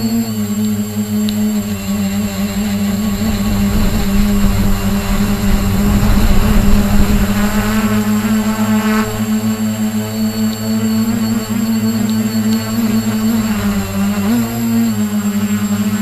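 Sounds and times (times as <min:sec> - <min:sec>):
model helicopter rotor hum: 0:00.0 - 0:16.0.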